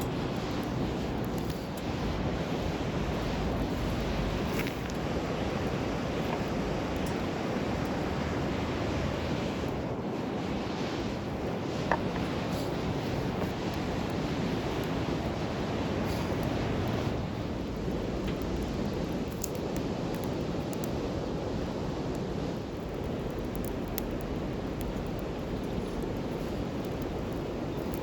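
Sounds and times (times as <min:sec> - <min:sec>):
campfire crackles: 0:00.0 - 0:28.0
wind rushing on microphone: 0:00.0 - 0:28.0.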